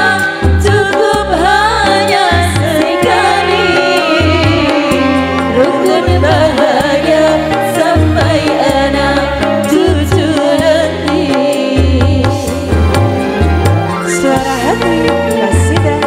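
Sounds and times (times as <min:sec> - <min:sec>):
woman singing: 0:00.0 - 0:12.8, 0:13.9 - 0:16.0
bass notes: 0:00.0 - 0:16.0
hand drum percussion: 0:00.0 - 0:16.0
keyboards: 0:00.0 - 0:16.0.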